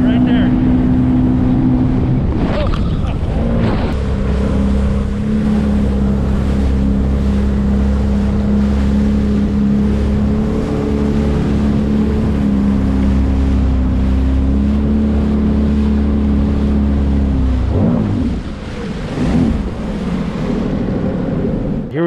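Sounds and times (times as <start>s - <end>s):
jet ski engine running: 0.0s - 22.0s
water rushing: 0.0s - 22.0s.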